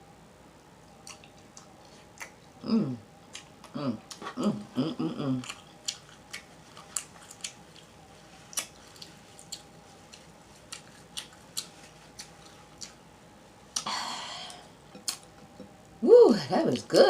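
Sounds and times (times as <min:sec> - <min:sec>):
person chewing with open mouth: 0:00.6 - 0:13.1, 0:13.7 - 0:15.9.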